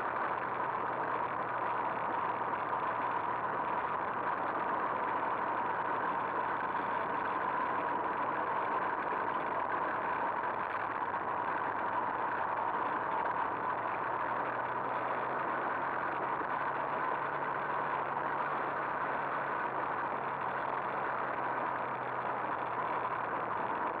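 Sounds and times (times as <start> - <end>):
gravel road noise: 0.0 - 24.0.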